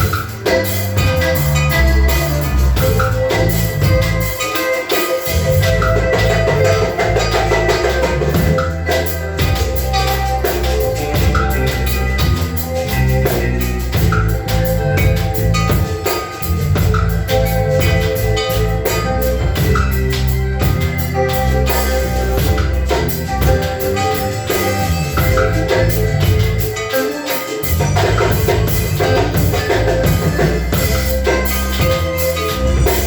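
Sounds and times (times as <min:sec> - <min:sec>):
drum kit and percussion beat: 0:00.0 - 0:33.0
sustained melodic tones: 0:00.0 - 0:33.0.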